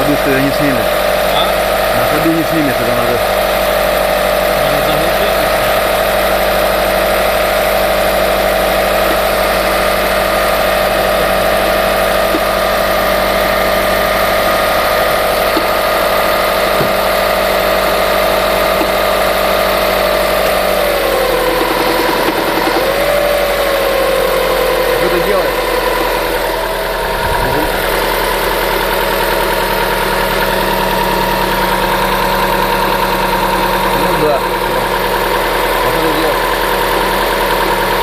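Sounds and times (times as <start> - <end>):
car engine idling: 0.0 - 38.0
engine whine: 0.0 - 38.0.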